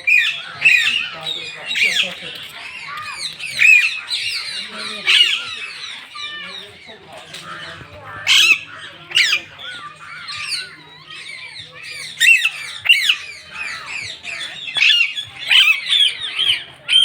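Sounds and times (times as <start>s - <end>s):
parrots squawking and screeching: 0.0s - 17.0s.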